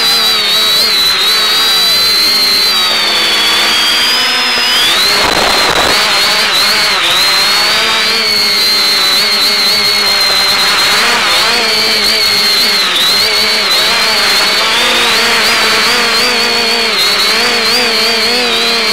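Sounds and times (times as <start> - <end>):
quadcopter motors whining: 0.0 - 18.9.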